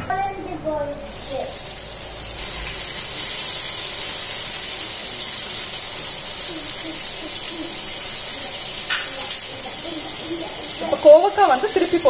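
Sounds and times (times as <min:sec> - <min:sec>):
vegetables sizzling in oil: 0:01.0 - 0:12.0.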